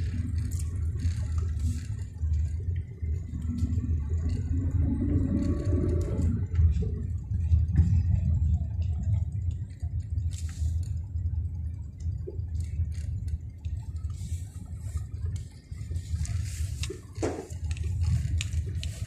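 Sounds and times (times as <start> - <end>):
car rumbling over rough ground: 0.0 - 19.0
interior rattles and ticks: 0.0 - 19.0.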